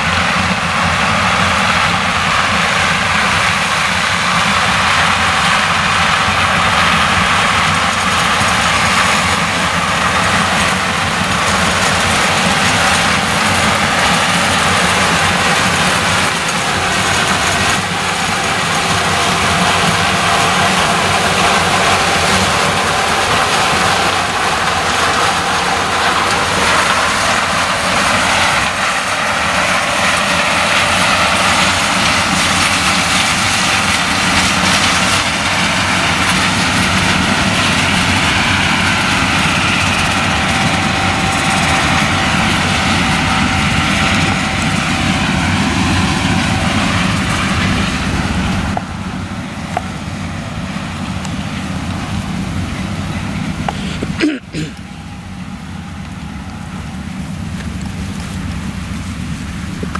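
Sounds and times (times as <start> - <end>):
combine harvester engine drone: 0.0 - 59.9
steady machine whine: 0.0 - 59.9.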